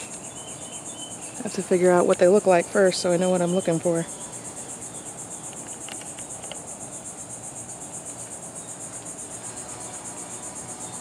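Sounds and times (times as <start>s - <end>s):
insect chorus chirring: 0.0s - 11.0s.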